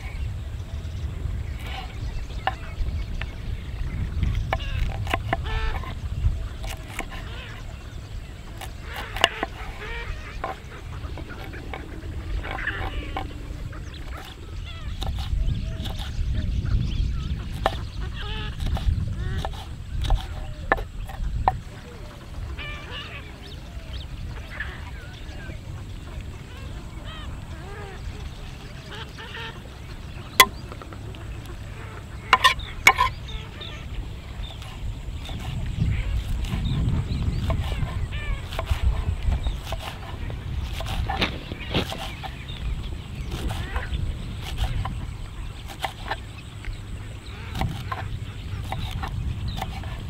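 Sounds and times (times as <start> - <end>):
birds calling: 0.0 - 50.0
wind rumble: 0.0 - 50.0.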